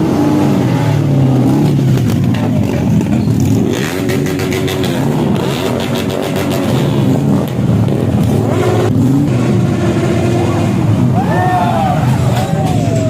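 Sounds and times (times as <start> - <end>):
vehicle engines revving: 0.0 - 13.0.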